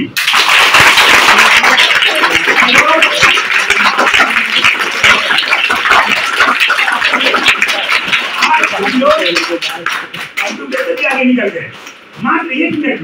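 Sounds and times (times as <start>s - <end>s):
children clapping: 0.2s - 11.4s.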